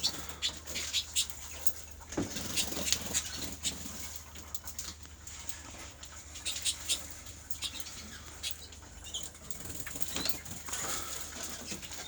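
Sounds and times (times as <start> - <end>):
birds hopping and landing ticks: 0.0 - 12.0.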